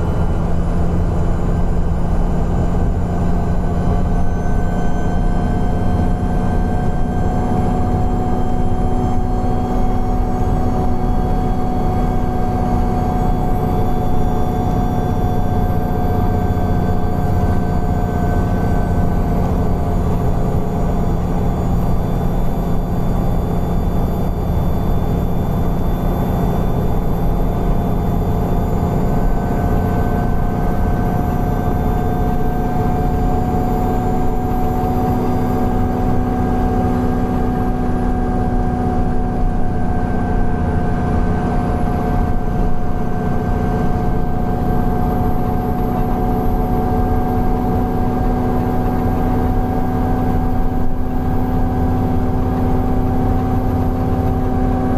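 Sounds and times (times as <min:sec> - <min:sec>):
bus engine droning: 0:00.0 - 0:54.9
whining tones: 0:00.0 - 0:54.9.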